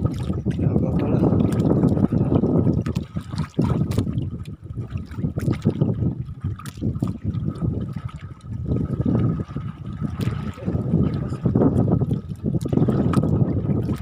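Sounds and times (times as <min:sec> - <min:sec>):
seawater sloshing against boat: 0:00.0 - 0:14.0.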